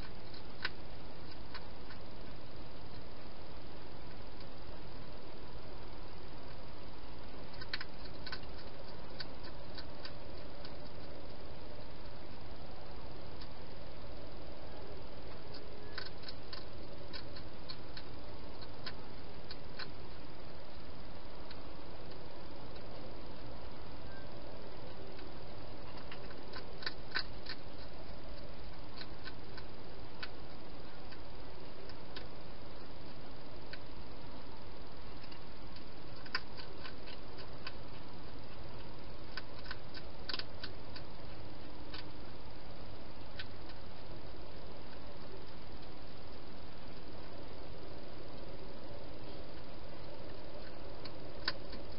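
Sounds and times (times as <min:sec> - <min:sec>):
hedgehog crunching food: 0:00.0 - 0:51.9
steady hiss: 0:00.0 - 0:51.9.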